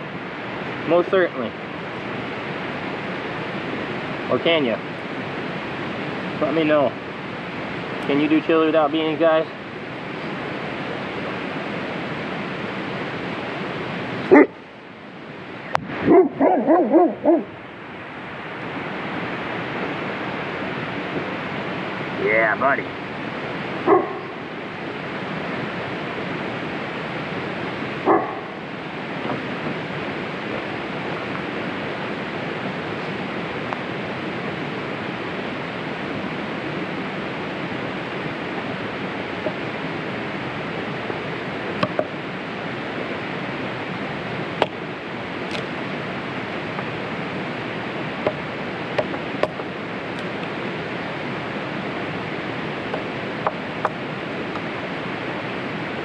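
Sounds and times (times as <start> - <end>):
rain rushing: 0.0 - 56.0.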